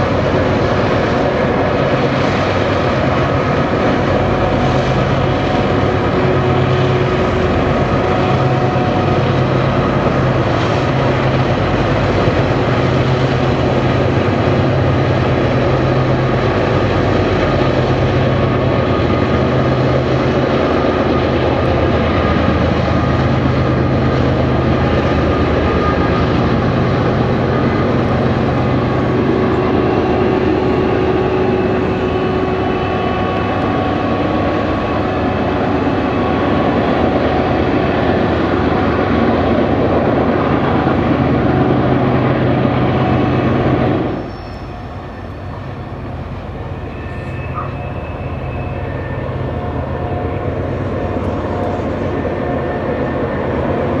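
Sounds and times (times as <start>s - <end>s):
diesel locomotive engines droning: 0.0s - 54.0s.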